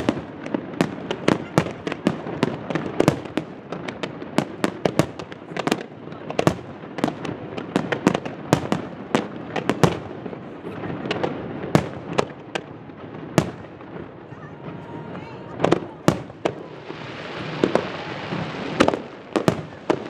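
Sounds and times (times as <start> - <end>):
fireworks bangs and cracks: 0.0 - 20.0
fireworks crackling: 0.0 - 20.0.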